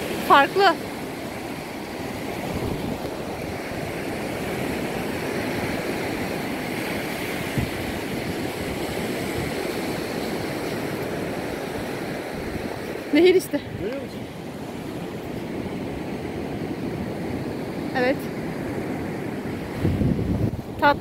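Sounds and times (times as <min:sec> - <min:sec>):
waves breaking on beach: 0:00.0 - 0:21.0
wind on microphone: 0:00.0 - 0:21.0.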